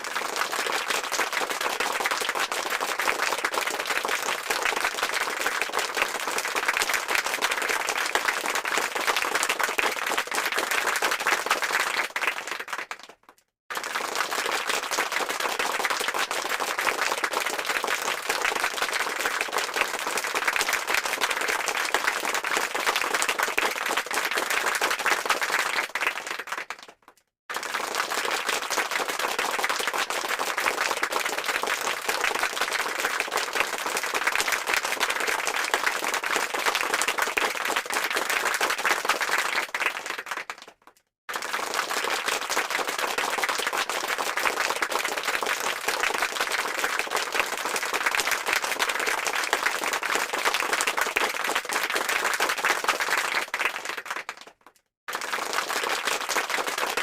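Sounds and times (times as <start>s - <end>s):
crowd clapping: 0.0s - 57.0s.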